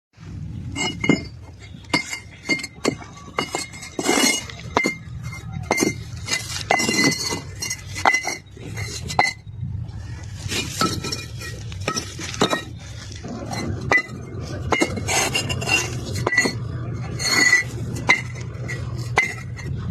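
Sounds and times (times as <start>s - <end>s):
bricks clinking together: 0.7s - 9.5s, 10.4s - 19.9s.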